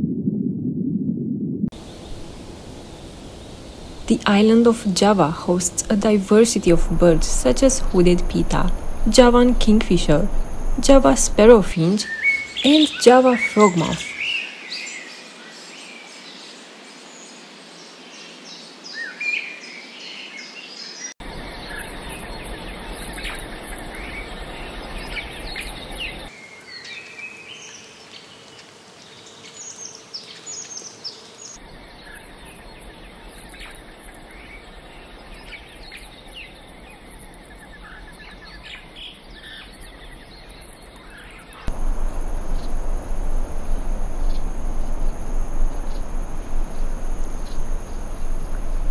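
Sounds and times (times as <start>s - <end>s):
steady background hiss: 1.8s - 48.9s.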